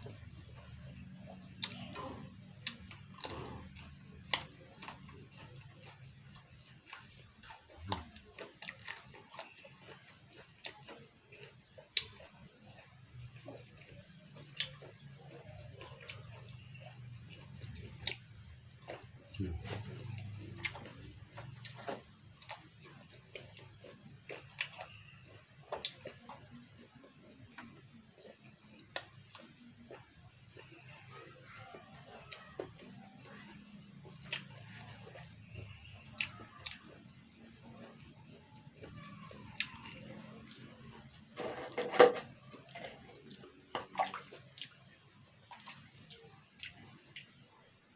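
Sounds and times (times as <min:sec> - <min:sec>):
wet chewing: 0:00.0 - 0:47.9.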